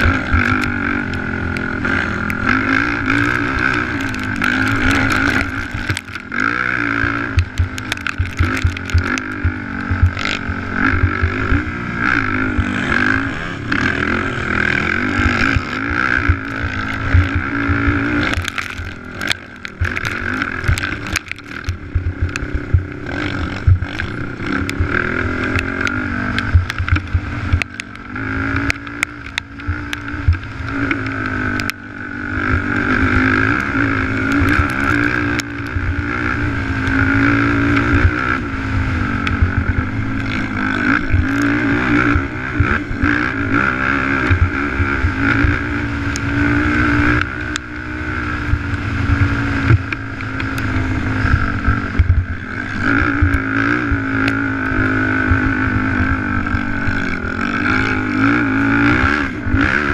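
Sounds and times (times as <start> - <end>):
atv engine revving hard: 0.0 - 59.9.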